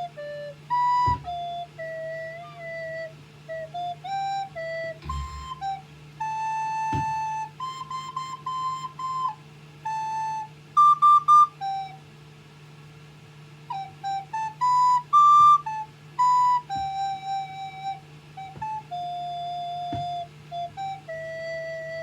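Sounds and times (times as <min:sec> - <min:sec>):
recorder tune: 0:00.0 - 0:12.0, 0:13.7 - 0:22.0.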